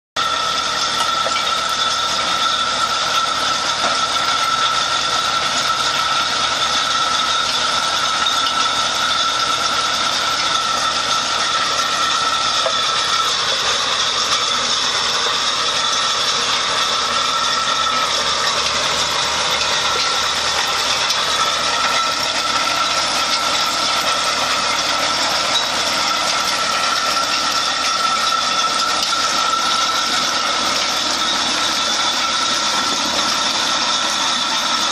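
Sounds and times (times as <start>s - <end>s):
constant high whine: 0.2s - 34.9s
field implement running through stony ground: 0.2s - 34.9s
tractor engines running: 0.2s - 34.9s.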